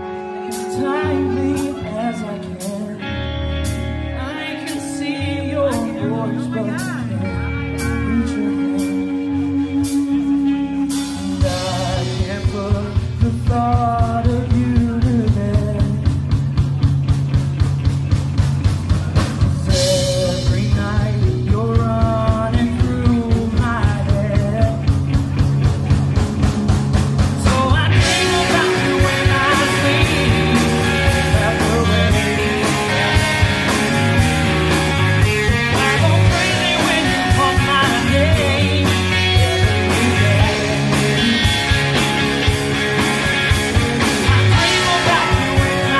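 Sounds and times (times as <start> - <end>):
man singing: 0.0 - 16.5, 19.0 - 25.0, 27.4 - 42.5, 43.4 - 45.9
live rock band playing: 0.0 - 45.9.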